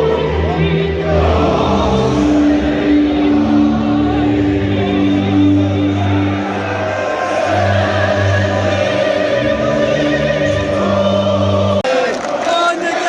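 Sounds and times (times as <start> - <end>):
choral opera-like singing: 0.0 - 13.0
crowd chanting: 0.0 - 13.0.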